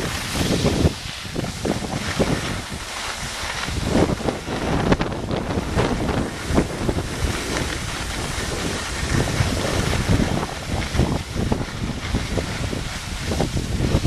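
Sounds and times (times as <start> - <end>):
skis sliding on snow: 0.0 - 14.0
wind gusts on microphone: 0.0 - 14.0.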